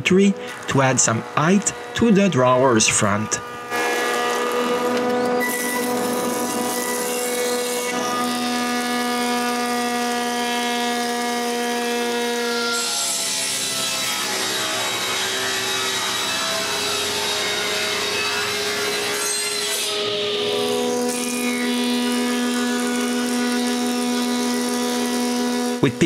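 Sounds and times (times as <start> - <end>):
jointer cutting wood: 0.0 - 26.0
table saw cutting wood: 0.0 - 26.0.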